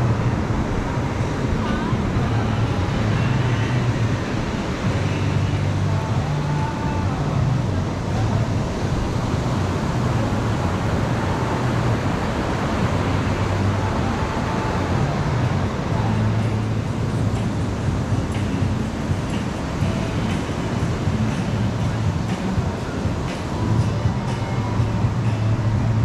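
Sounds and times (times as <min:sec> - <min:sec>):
low hum: 0:00.0 - 0:26.0
ocean surf on shore: 0:00.0 - 0:26.0
wind noise: 0:00.0 - 0:26.0.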